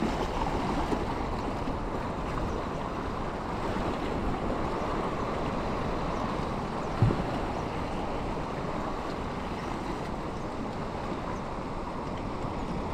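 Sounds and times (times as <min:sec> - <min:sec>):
waves washing over rocks: 0:00.0 - 0:12.9.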